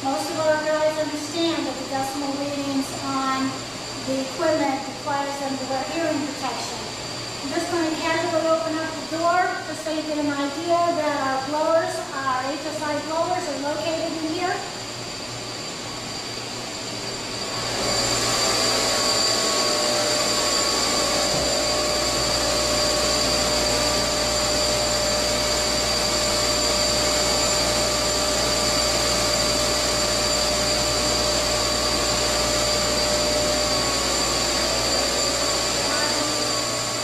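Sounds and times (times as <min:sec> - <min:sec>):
machinery noise with high whine: 0:00.0 - 0:37.0.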